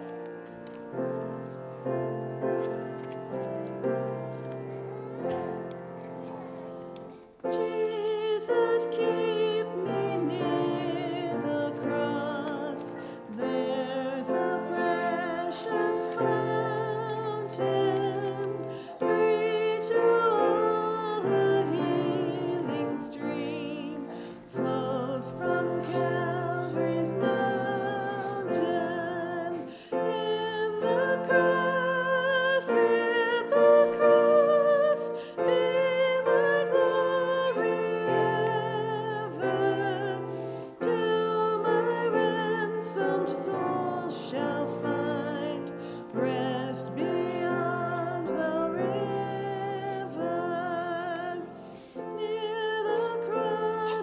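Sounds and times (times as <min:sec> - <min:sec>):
piano accompaniment: 0:00.0 - 0:54.0
woman singing with vibrato: 0:07.5 - 0:51.4.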